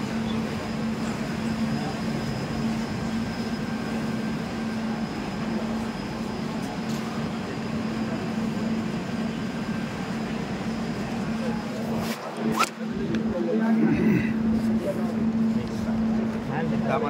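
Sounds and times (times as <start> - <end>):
train humming and rumbling: 0.0 - 17.0.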